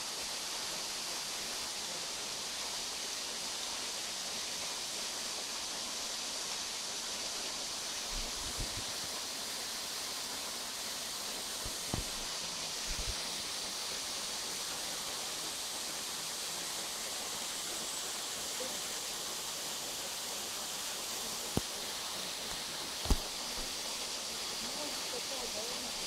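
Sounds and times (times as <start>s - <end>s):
waterfall hissing: 0.0s - 26.0s.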